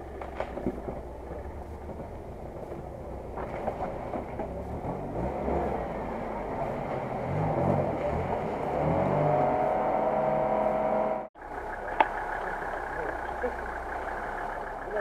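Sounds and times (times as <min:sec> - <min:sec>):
truck engine running under load: 0:00.0 - 0:09.2, 0:11.3 - 0:15.0.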